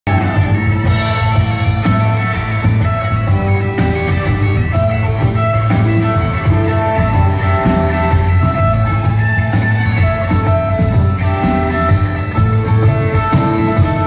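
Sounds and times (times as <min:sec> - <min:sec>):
drums: 0:00.0 - 0:14.0
bagpipes melody with drone: 0:00.1 - 0:14.0
electric guitar: 0:00.1 - 0:14.0
upright bass: 0:00.1 - 0:14.0.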